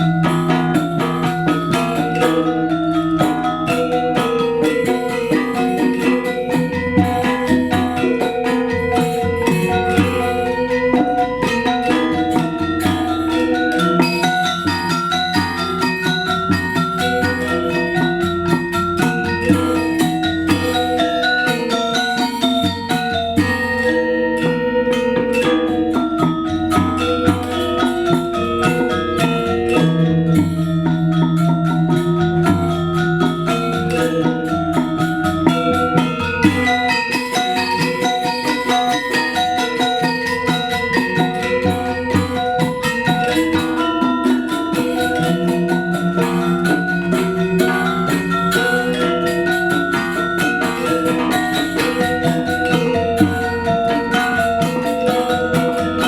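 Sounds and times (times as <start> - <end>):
gamelan metallophones playing: 0.0 - 56.0.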